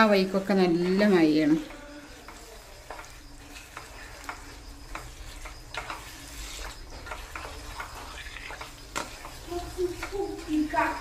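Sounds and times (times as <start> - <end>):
masala sizzling: 0.0 - 11.0
wooden spatula scraping a pan: 0.0 - 11.0.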